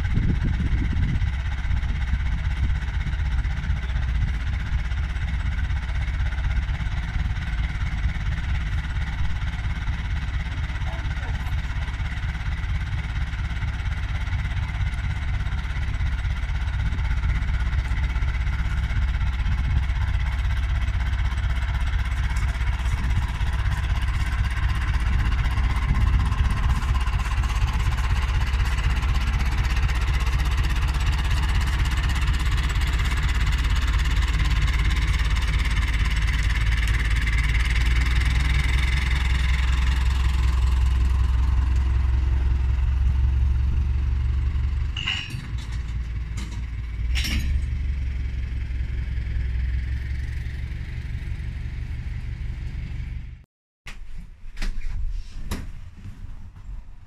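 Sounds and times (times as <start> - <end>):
tractor engine running: 0.0 - 53.4.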